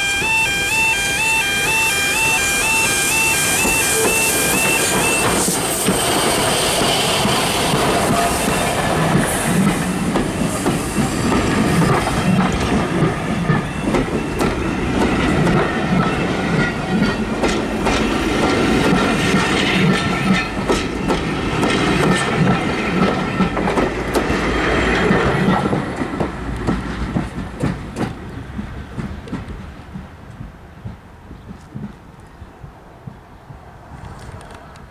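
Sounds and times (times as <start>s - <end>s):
wheels clattering over rail joints: 3.6s - 32.4s.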